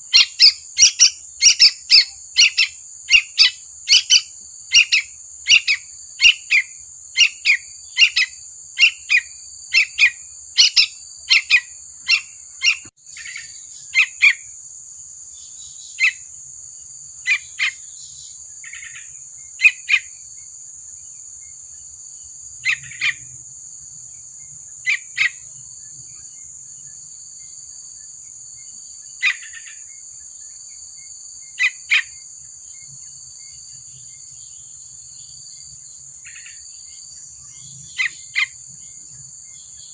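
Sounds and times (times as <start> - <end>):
bird chirping: 0.0 - 14.6, 15.2 - 39.9.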